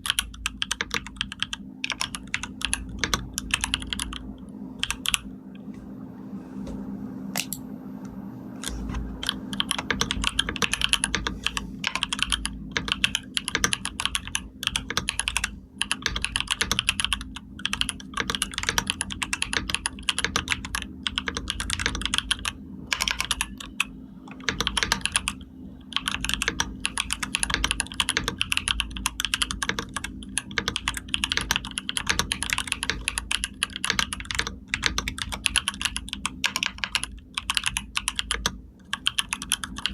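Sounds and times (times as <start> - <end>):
keyboard typing: 0.0 - 5.7, 8.6 - 39.9
steady low hum: 0.0 - 39.9.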